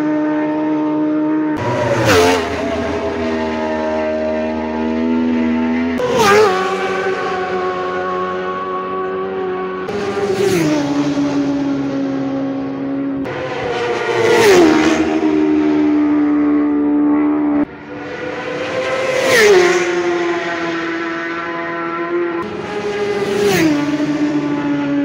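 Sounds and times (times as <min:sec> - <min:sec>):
racing motorcycles passing: 0:00.0 - 0:25.0.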